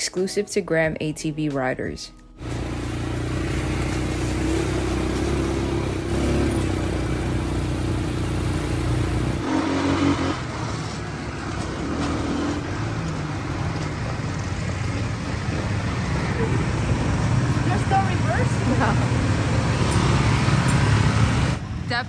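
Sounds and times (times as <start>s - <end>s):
quad bike engines running: 2.4s - 22.0s.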